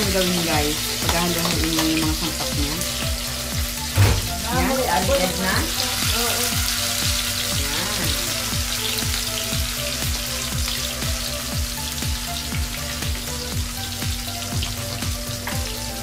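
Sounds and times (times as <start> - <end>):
background music with steady beat: 0.0 - 16.0
patties sizzling in oil: 0.0 - 16.0.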